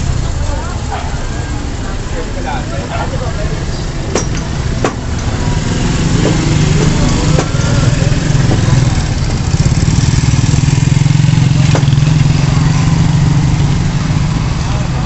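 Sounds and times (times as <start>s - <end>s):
motorcycle sidecar passing: 0.0s - 15.0s
small motorcycle engines droning: 0.0s - 15.0s.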